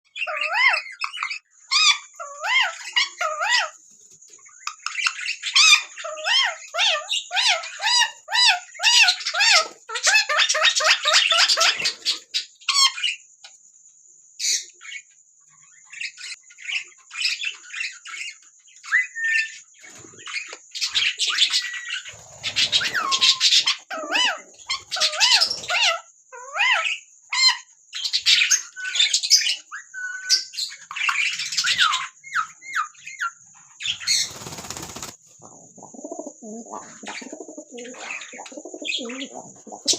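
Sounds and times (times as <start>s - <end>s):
parrots squawking and chirping: 0.1s - 13.2s, 14.4s - 35.2s, 36.7s - 39.9s.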